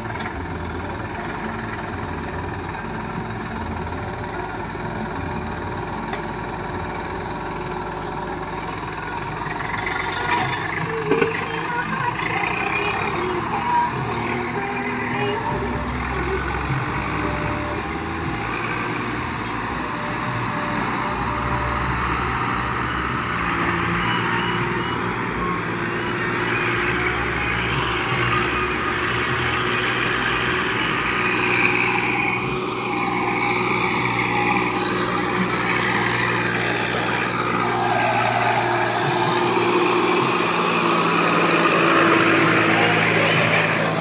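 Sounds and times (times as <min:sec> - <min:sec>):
heavy diesel machinery running: 0:00.0 - 0:44.0.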